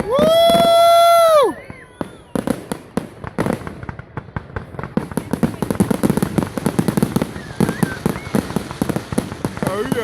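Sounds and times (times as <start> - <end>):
fireworks cracking and popping: 0.0 - 10.0.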